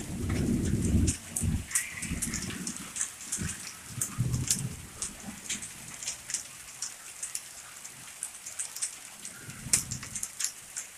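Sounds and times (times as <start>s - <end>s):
hailstones ticking: 0.0s - 10.9s
heavy rain hissing: 0.0s - 10.9s.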